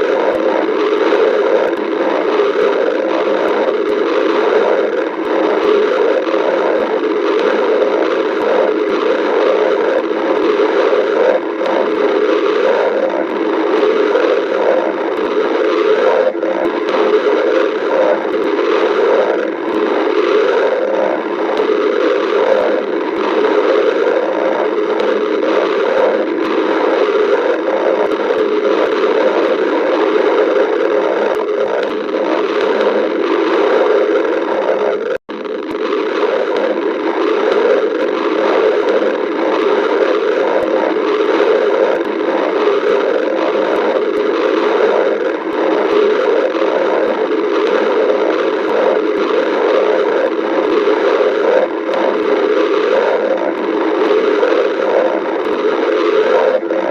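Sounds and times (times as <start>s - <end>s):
stomach growling: 0.0s - 56.9s.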